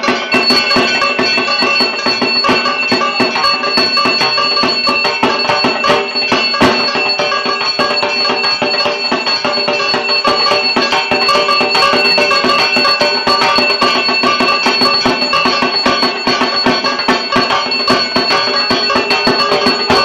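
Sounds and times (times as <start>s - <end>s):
barrel drum fast rhythm: 0.0s - 20.0s
high ringing tone: 0.0s - 20.0s.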